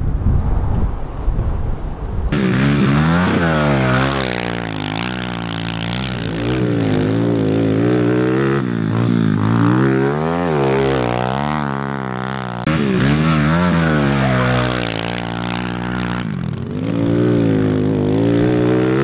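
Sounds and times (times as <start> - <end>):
pit bike engine revving: 2.3 - 19.0.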